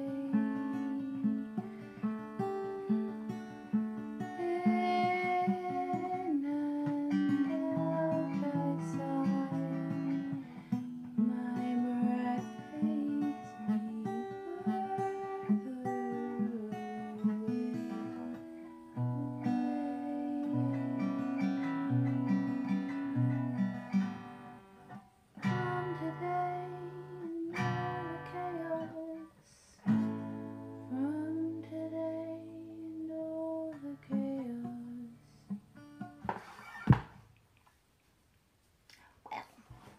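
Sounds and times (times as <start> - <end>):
acoustic guitar strummed and picked: 0.0 - 37.2.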